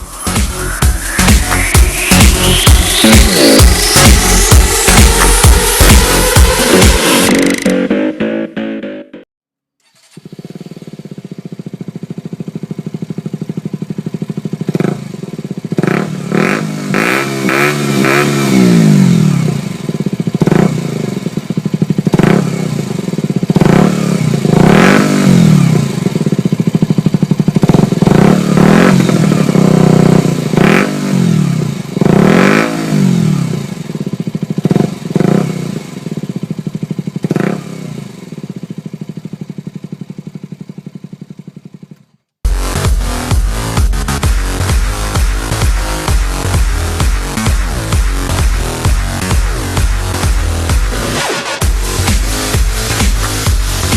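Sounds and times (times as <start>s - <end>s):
motorcycle engine revving: 0.0s - 9.2s, 9.8s - 53.9s.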